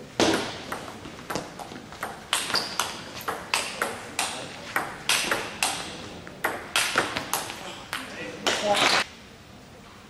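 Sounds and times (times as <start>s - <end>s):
table tennis ball hits: 0.2s - 9.0s.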